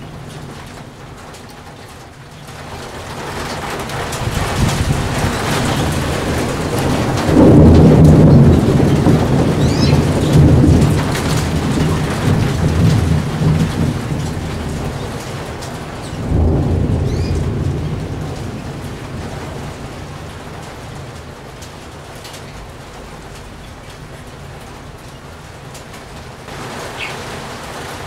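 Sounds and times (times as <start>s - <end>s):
rolling thunder: 0.0s - 25.2s
steady rain: 0.0s - 28.0s.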